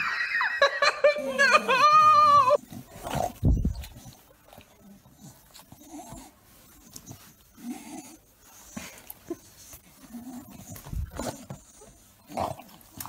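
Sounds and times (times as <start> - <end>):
dog making soft sounds: 1.8 - 13.0.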